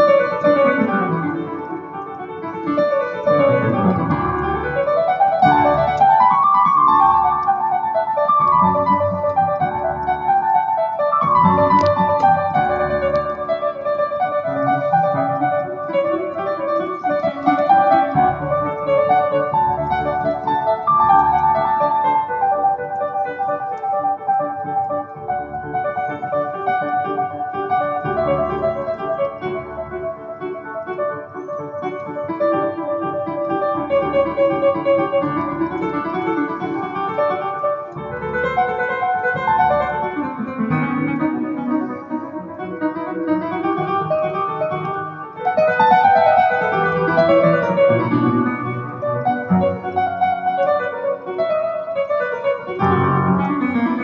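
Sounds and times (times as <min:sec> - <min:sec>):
digital piano piece: 0:00.0 - 0:54.0.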